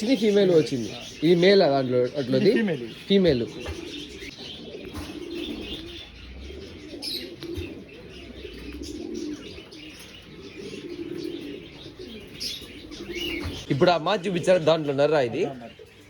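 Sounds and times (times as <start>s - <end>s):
high bird chirps: 0.0s - 16.0s
pigeons cooing: 0.0s - 16.0s.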